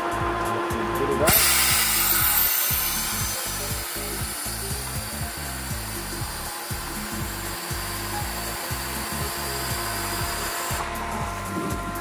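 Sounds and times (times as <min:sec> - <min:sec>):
background music with bass line: 0:00.0 - 0:12.0
pool pump running: 0:00.0 - 0:12.0.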